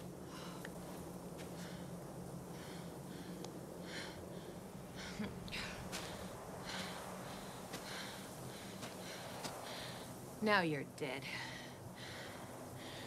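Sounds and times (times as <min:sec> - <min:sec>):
low steady hum: 0:00.0 - 0:13.0
woman breathing heavily: 0:00.2 - 0:10.3, 0:11.2 - 0:13.0.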